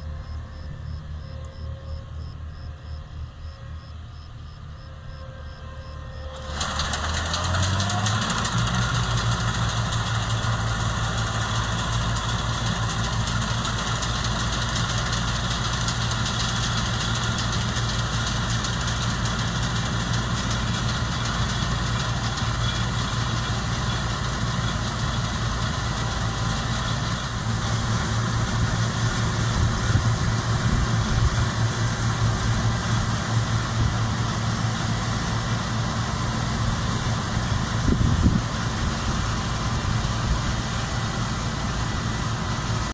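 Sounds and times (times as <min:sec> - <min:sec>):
combine harvester engine: 0:00.0 - 0:42.9.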